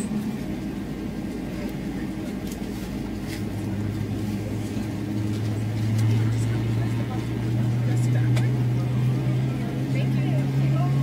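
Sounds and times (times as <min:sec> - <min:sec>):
aircraft cabin engine drone: 0:00.0 - 0:11.0.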